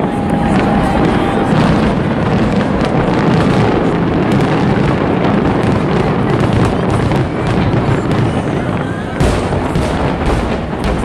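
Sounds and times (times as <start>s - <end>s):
aerial fireworks rumble and crackles: 0.0s - 11.0s.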